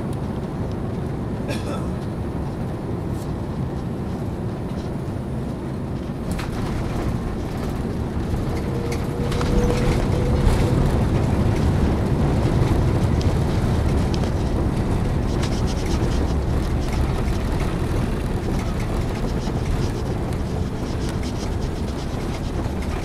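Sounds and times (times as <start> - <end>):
airliner engines and wheels rumbling: 0.0 - 23.0.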